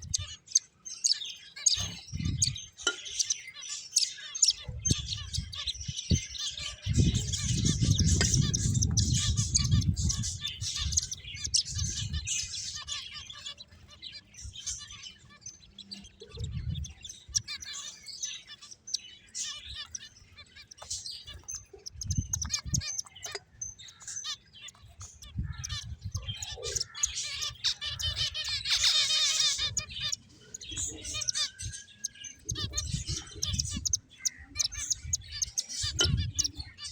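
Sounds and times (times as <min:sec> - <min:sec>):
finches chirping and twittering: 0:00.0 - 0:36.9.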